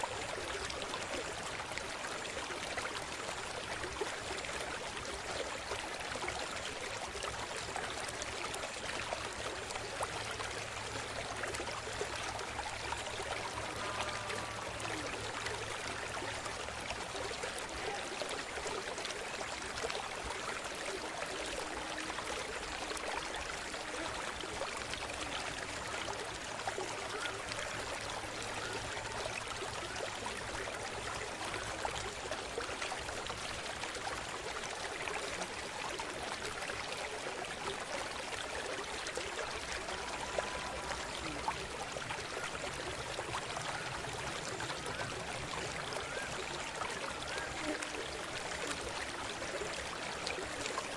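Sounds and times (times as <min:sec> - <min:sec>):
river water flowing over stones: 0:00.0 - 0:50.9.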